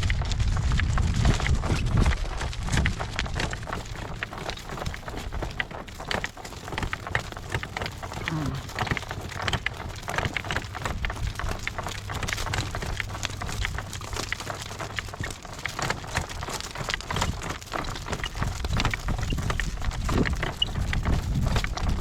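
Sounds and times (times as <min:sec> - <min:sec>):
horse hooves clopping: 0:00.0 - 0:22.0
wind rumble on microphone: 0:00.0 - 0:22.0.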